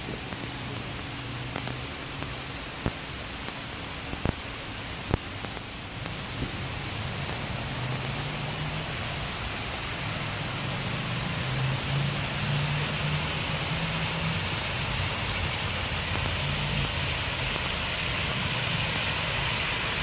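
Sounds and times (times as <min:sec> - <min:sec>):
city park background hiss: 0:00.0 - 0:20.0.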